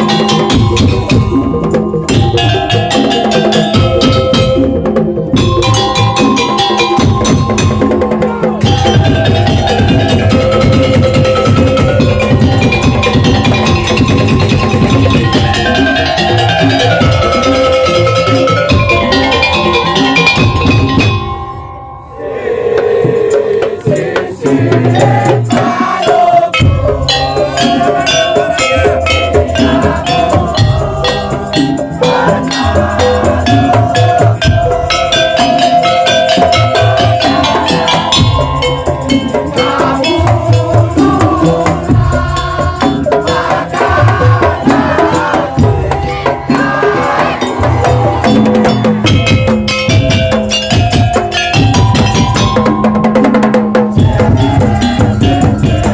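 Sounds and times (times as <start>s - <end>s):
percussion ensemble music: 0.0s - 55.9s.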